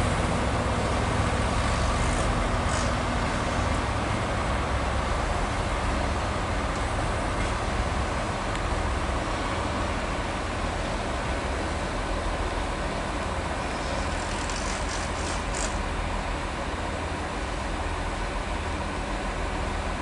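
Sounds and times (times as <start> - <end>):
diesel train rumbling: 0.0 - 20.0.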